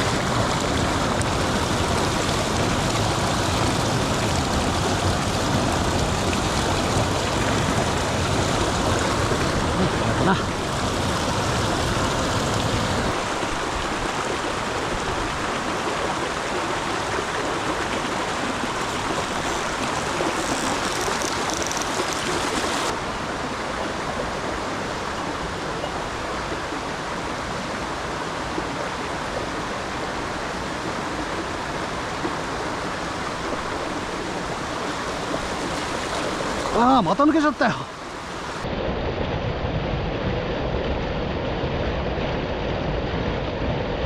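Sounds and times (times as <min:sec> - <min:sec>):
water rushing over stones: 0:00.0 - 0:42.7.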